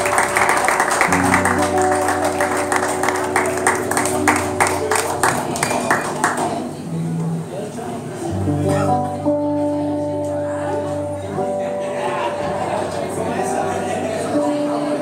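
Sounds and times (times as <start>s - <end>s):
electric guitars sustained notes: 0.0s - 15.0s.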